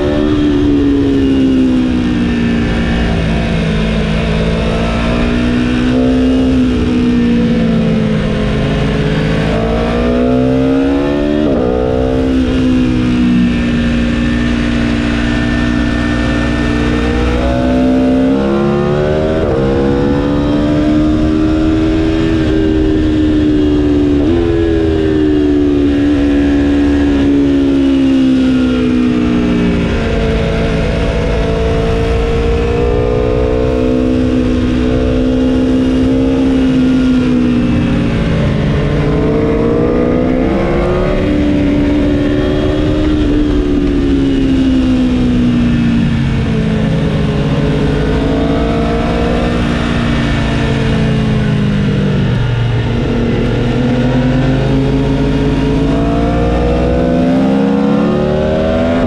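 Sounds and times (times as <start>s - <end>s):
motorcycle engine revving under load: 0.0s - 59.0s.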